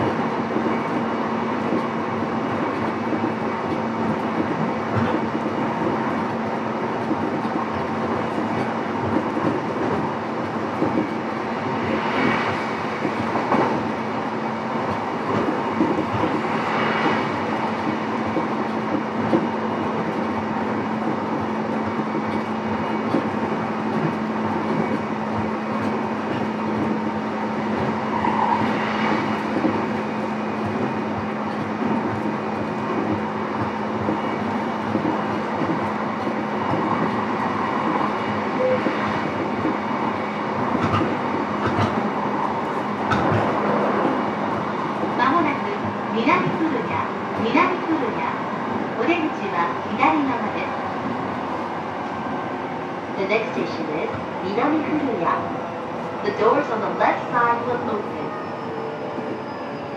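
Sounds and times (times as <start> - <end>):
constant train hum: 0.0 - 59.9
train wheels rumbling on rail: 0.0 - 59.9.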